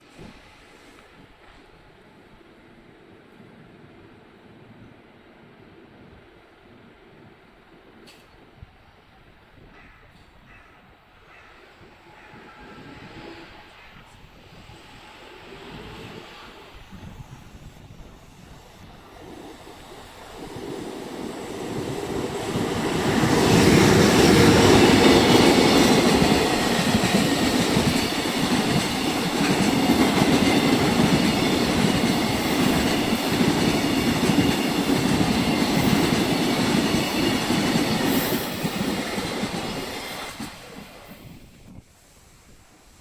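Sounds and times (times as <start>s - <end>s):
train passing at speed: 0.0s - 43.0s.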